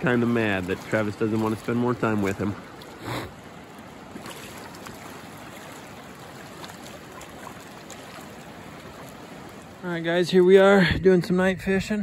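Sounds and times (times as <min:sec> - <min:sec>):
splashes from wading: 0:00.0 - 0:09.8
water running over rocks: 0:00.0 - 0:12.0.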